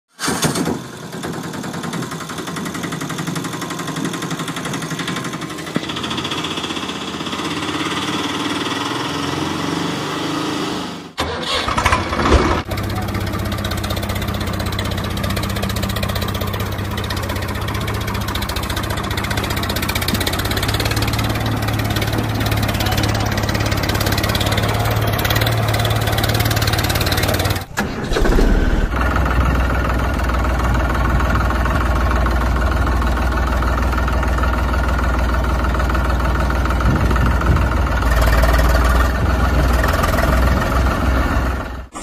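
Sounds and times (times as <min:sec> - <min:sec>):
tractor engine starting: 0:00.1 - 0:42.0
rattling engine running: 0:00.2 - 0:09.6, 0:11.5 - 0:42.0
tractor engine running: 0:00.2 - 0:09.9, 0:11.2 - 0:42.0.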